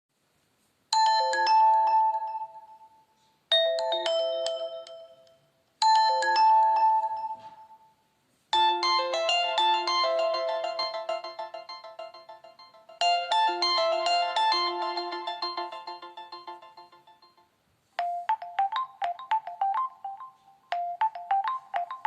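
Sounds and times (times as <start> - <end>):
ringtone melody: 1.0 - 8.0, 8.6 - 22.0.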